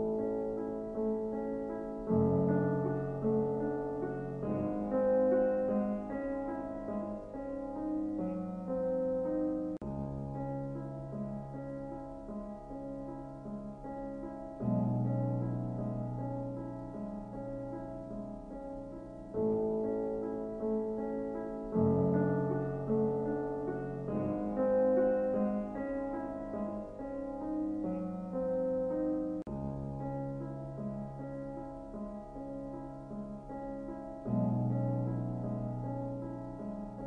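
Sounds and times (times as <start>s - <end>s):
slow piano chords: 0.0s - 37.0s.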